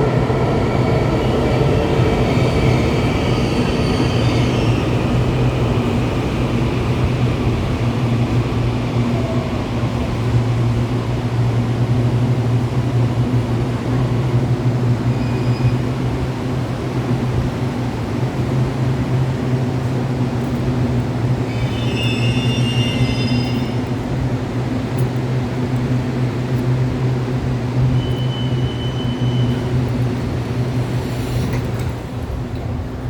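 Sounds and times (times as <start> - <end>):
train hum and rumble: 0.0 - 33.0.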